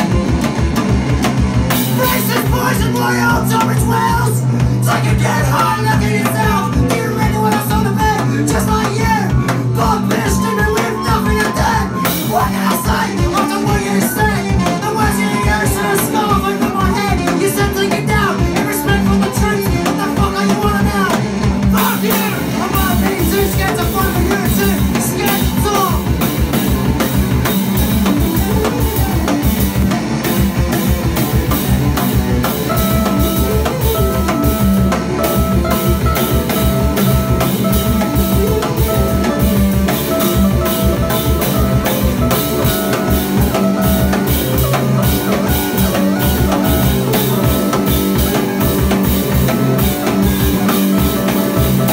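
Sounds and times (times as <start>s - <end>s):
drum kit beat: 0.0s - 51.9s
electric guitar: 0.0s - 51.9s
person singing: 1.7s - 26.6s, 32.5s - 51.9s.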